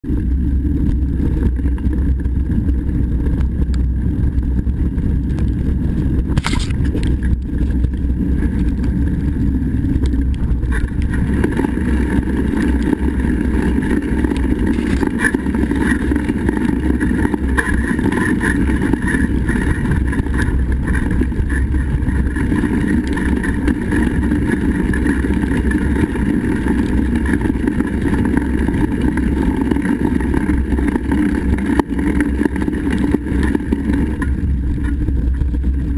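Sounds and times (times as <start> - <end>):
tyre and ride noise: 0.0 - 35.9
wind rumble on microphone: 0.0 - 35.9.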